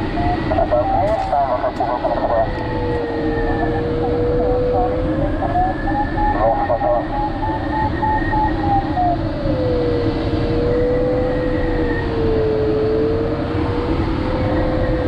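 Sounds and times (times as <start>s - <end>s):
wind rushing past microphone: 0.0s - 15.0s.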